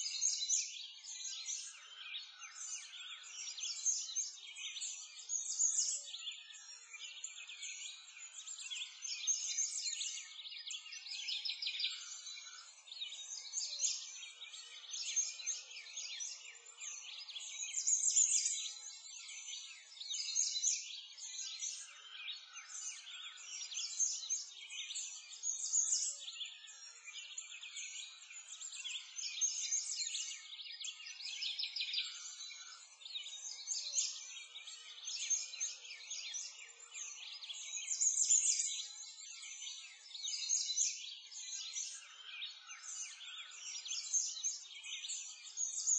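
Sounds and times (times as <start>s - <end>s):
songbirds chirping and twittering: 0.0s - 45.9s.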